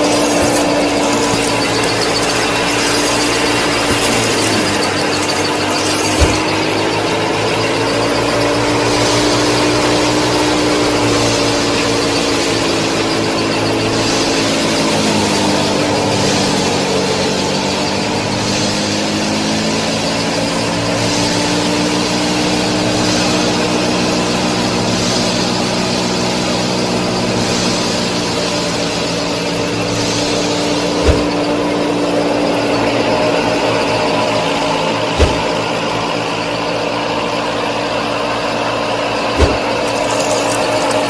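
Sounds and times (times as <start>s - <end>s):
mini tractor motor running: 0.0s - 32.6s, 34.8s - 41.0s.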